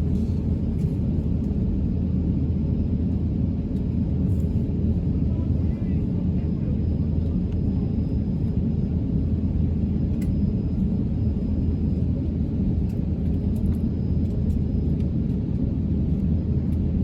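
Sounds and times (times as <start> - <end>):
airliner cabin jet engine rumble: 0.0 - 17.0.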